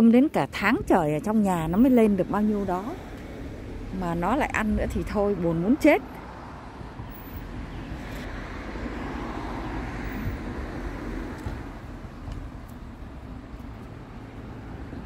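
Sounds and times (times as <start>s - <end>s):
low traffic rumble: 0.0s - 15.0s
vehicle passing by: 2.0s - 15.0s.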